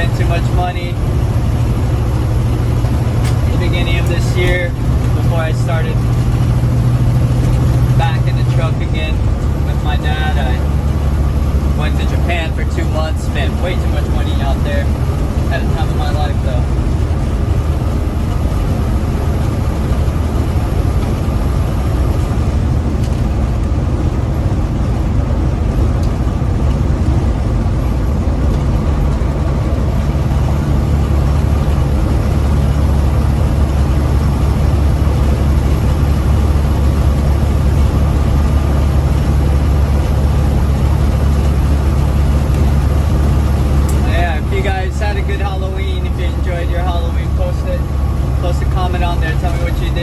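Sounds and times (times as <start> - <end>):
truck diesel engine droning: 0.0 - 50.0.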